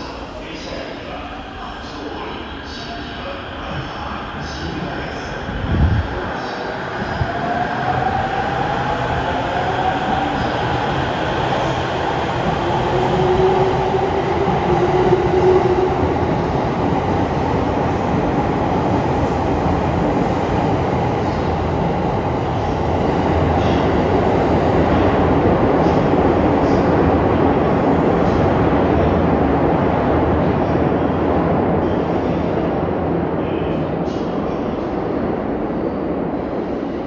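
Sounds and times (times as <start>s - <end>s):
electric train rumbling: 0.0s - 37.0s.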